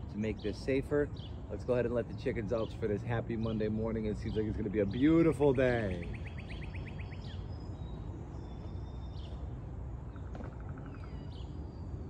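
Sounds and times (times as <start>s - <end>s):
birds chirping and trilling: 0.0s - 12.0s.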